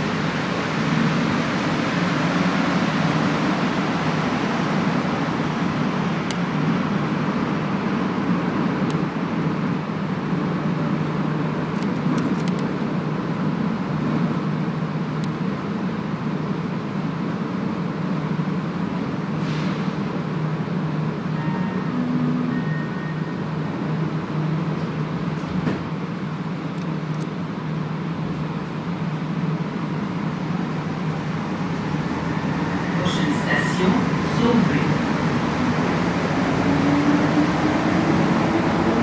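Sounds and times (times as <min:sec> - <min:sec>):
train mechanical hum: 0:00.0 - 0:39.0.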